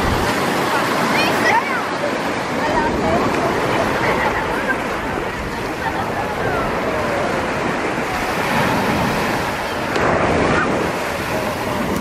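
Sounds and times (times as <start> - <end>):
waves washing on shore: 0.0 - 12.0
wind on microphone: 0.0 - 12.0.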